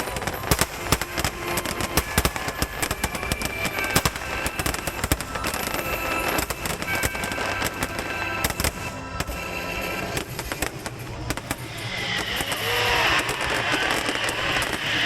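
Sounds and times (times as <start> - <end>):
fireworks crackle and rumble: 0.0 - 15.0
fireworks shells bursting: 0.0 - 15.0.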